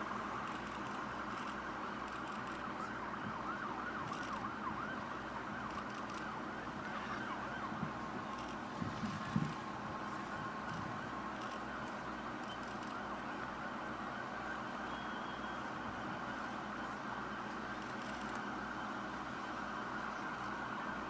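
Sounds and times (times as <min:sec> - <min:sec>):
distant siren wailing: 0:00.0 - 0:21.0
outdoor background noise: 0:00.0 - 0:21.0.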